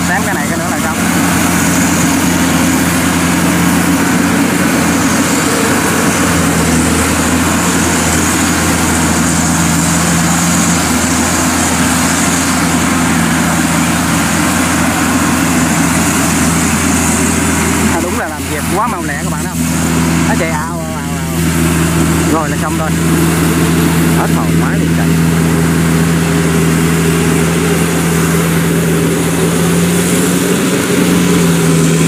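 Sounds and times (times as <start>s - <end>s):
combine harvester engine hum: 0.0s - 32.0s.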